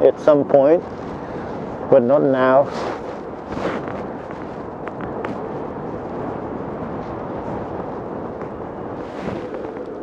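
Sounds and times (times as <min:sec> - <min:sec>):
road noise: 0:00.0 - 0:10.0
wind rushing on microphone: 0:00.0 - 0:10.0.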